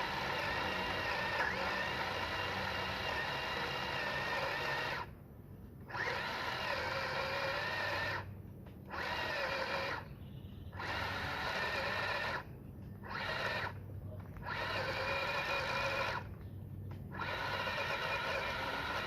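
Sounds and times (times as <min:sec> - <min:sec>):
electric pole saw running: 0:00.0 - 0:05.2, 0:05.8 - 0:19.0.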